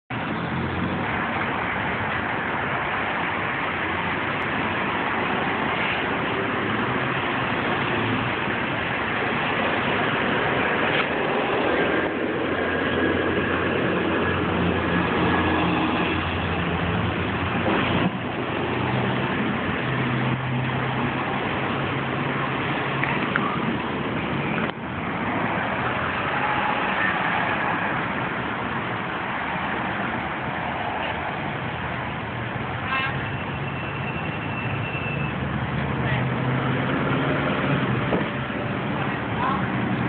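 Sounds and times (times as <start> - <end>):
road traffic hiss: 0.1 - 40.0.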